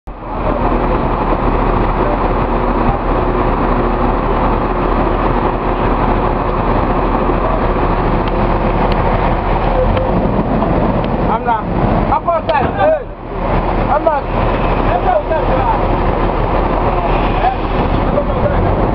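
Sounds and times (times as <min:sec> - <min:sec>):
truck engine running: 0:00.1 - 0:18.9.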